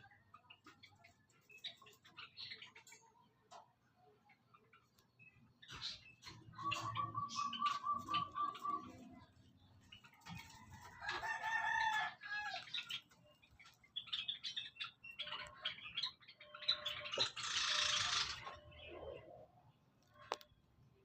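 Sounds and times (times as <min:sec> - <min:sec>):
sparrows chirping: 0:00.0 - 0:21.0.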